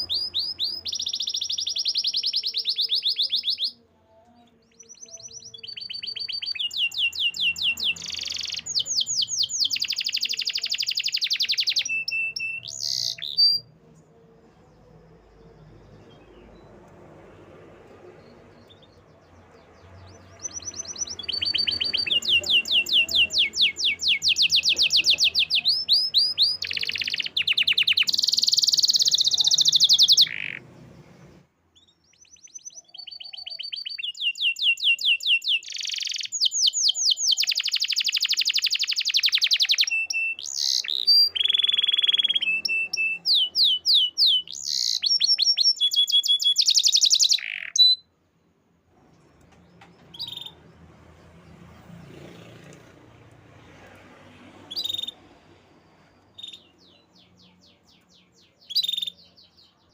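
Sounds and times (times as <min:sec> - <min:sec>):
canary singing trills: 0:00.0 - 0:48.2, 0:49.0 - 0:59.9.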